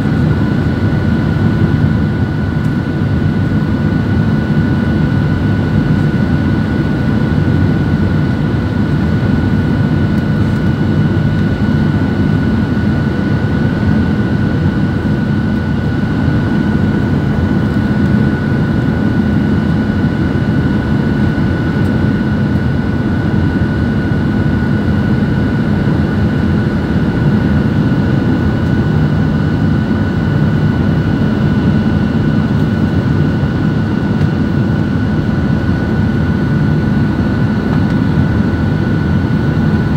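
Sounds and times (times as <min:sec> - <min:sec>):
jet engine and airflow rush: 0:00.0 - 0:39.9
thin steady whine: 0:00.0 - 0:39.9.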